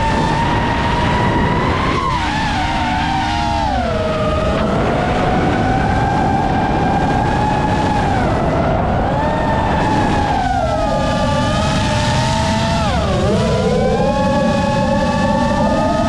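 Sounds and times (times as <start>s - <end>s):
prop wash and wind rushing: 0.0s - 15.9s
quadcopter motors whining: 0.0s - 16.0s.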